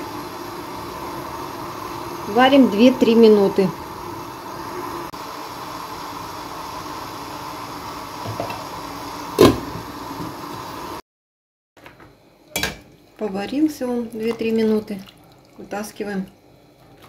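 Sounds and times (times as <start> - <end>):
pot boiling hiss: 0.0 - 11.0, 12.9 - 17.0.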